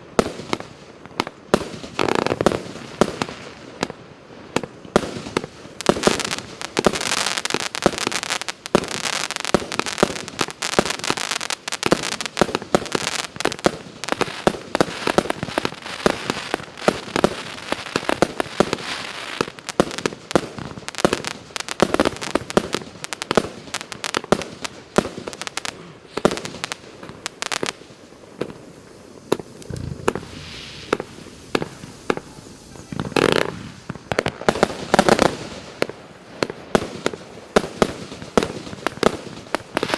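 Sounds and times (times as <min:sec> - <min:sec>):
fireworks crackle: 0:00.2 - 0:39.9
fireworks launching and bursting: 0:04.6 - 0:39.9.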